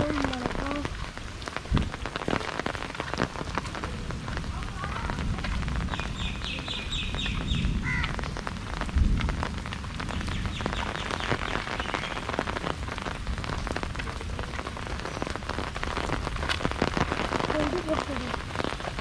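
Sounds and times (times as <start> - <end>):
heavy rain pattering: 0.0 - 19.0.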